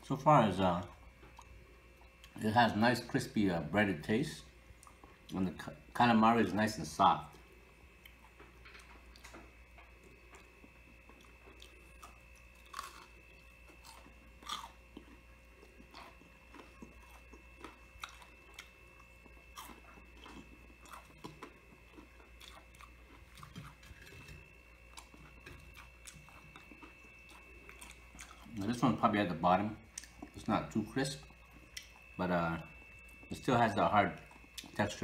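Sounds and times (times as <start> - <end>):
person chewing crispy food: 0.8 - 2.4, 4.7 - 5.6, 7.3 - 28.9, 29.8 - 35.0.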